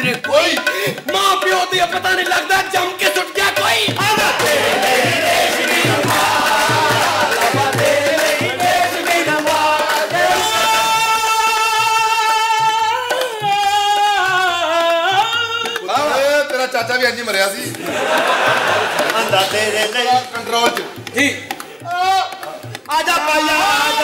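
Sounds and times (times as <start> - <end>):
hand drum beat: 0.0 - 24.0.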